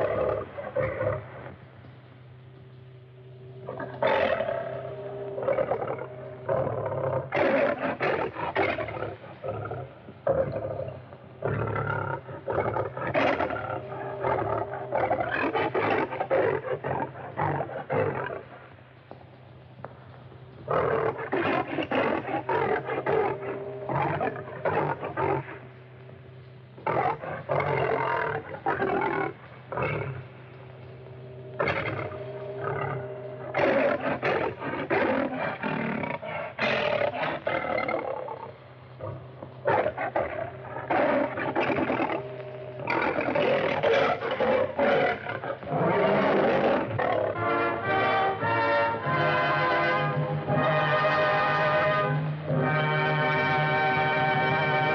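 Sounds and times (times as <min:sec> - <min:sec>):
lion roaring: 0:00.0 - 0:01.6, 0:03.6 - 0:18.8, 0:20.6 - 0:25.7, 0:26.8 - 0:54.9
film soundtrack hum: 0:00.0 - 0:54.9.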